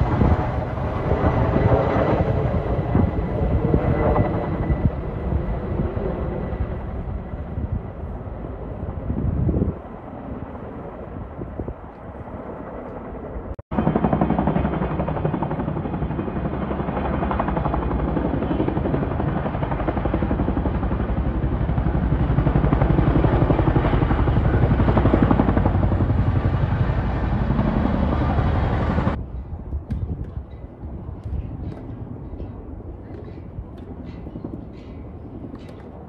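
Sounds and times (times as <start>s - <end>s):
helicopter rotors chopping: 0.0s - 36.0s.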